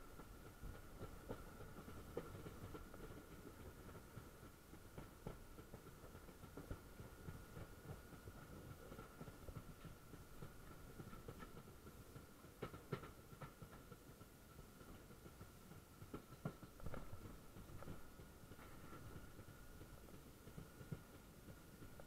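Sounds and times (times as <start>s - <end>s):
faint train rumble: 0.0s - 22.0s
wheels clicking over rail joints: 0.0s - 22.0s.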